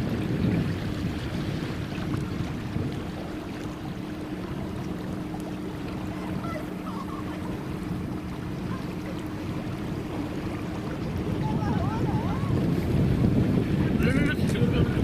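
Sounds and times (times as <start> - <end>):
wind and water wash: 0.0 - 15.0
electric boat motor humming: 0.1 - 15.0.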